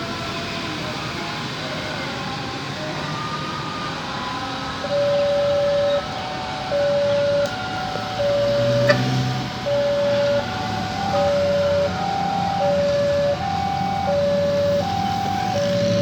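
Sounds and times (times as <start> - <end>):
level crossing warning siren: 0.0 - 16.0
traffic noise: 0.0 - 16.0.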